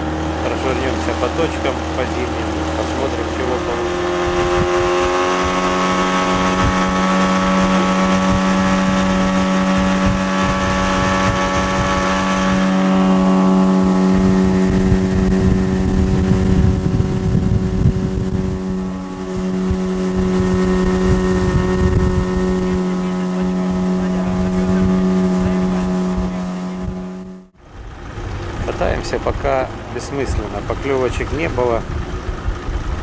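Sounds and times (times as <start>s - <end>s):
low rumble: 0.0s - 33.0s
outboard motor running: 0.0s - 33.0s.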